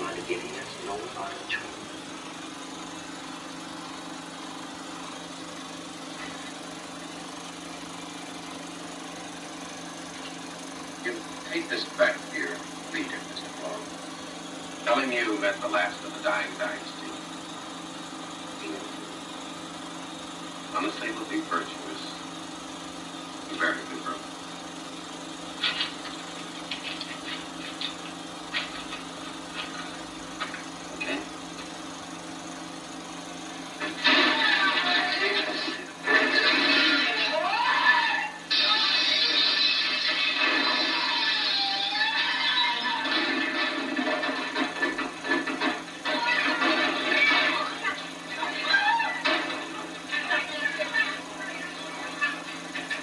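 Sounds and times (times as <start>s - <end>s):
film projector whirring: 0.0s - 53.0s.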